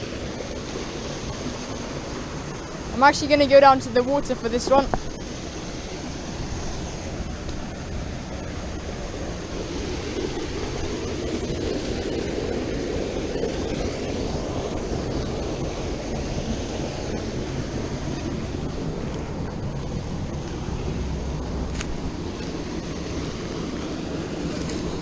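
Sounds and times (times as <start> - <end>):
river water rushing: 0.0 - 25.0
wind noise on microphone: 0.0 - 25.0.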